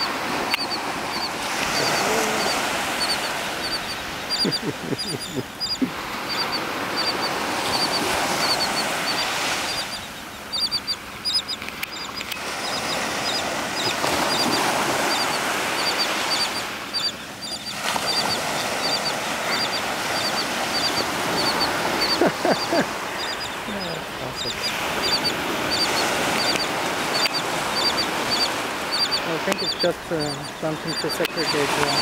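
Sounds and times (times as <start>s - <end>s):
terns chirping: 0.0s - 32.0s.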